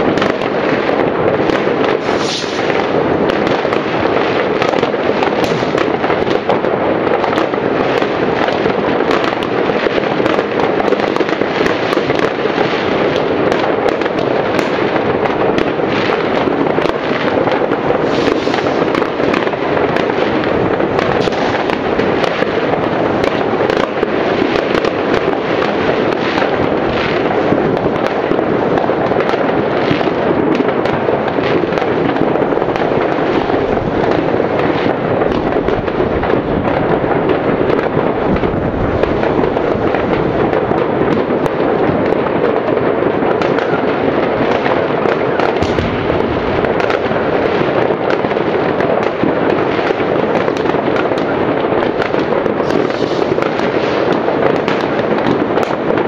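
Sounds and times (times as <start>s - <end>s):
fireworks and firecrackers crackling: 0.0s - 56.0s.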